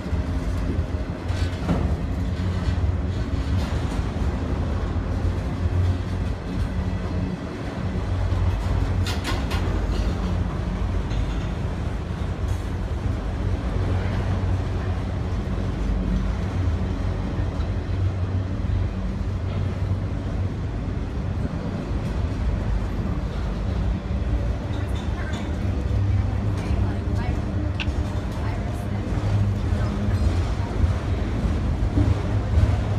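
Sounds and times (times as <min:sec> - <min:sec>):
train rumbling by: 0:00.0 - 0:32.9.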